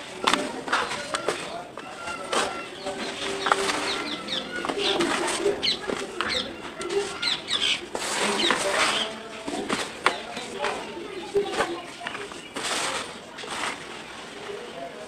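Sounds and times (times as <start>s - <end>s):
hands crunching dry soil: 0.0s - 14.7s
birds chirping: 0.0s - 15.0s.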